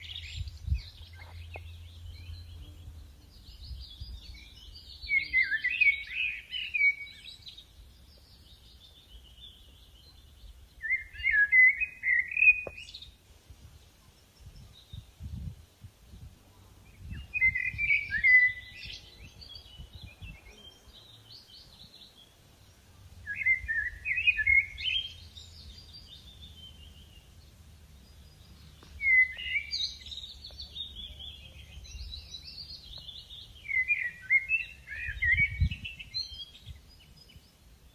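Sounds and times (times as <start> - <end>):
birds chirping faintly: 0.0 - 37.9
songbird singing: 0.0 - 37.9.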